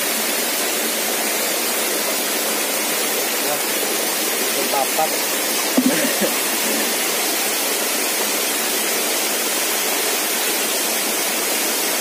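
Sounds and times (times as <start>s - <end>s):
rocky stream rushing: 0.0s - 12.0s
small waterfall: 0.0s - 12.0s.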